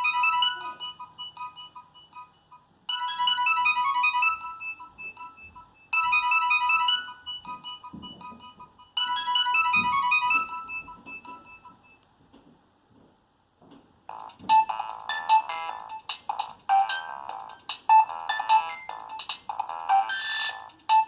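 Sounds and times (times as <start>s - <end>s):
mobile phone ringtones: 0.0s - 12.0s, 14.1s - 21.0s.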